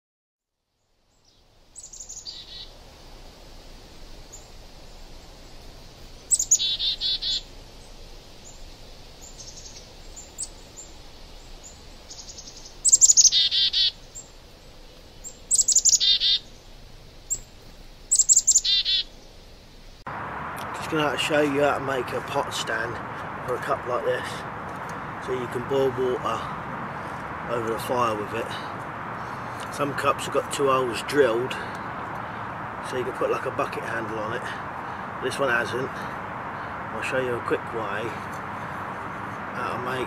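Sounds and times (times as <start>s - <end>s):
songbird singing: 0.6s - 40.0s.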